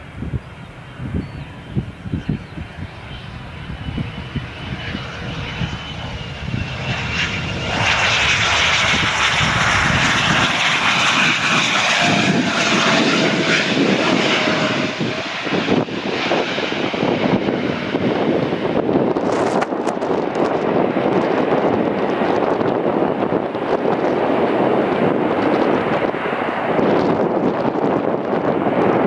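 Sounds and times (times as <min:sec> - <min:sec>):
jet landing and passing: 0:00.0 - 0:29.0.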